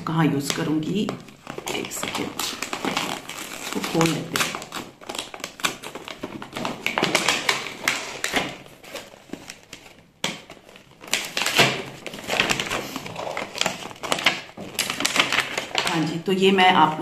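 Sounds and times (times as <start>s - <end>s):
plastic wrapping crinkling: 0.0s - 17.0s
cardboard tapping and scraping: 0.4s - 15.9s.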